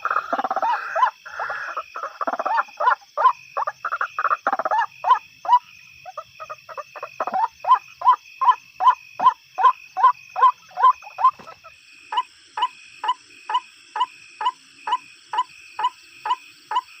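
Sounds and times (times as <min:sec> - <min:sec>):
waterhen croaking calls: 0:00.0 - 0:17.0.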